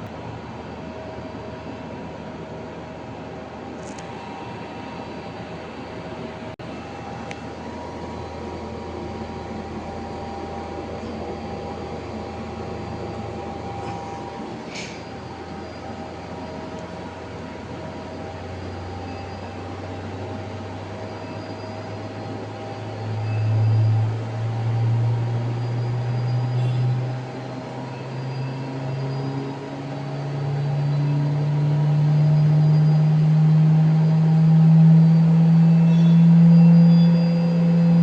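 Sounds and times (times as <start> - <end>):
centrifuge motor hum rising: 0.0 - 38.0.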